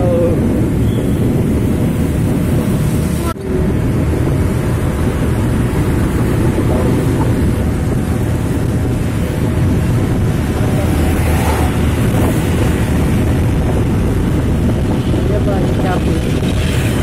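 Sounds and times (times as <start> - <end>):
vehicle road and engine noise: 0.0 - 17.0
wind rumbling on microphone: 0.0 - 17.0.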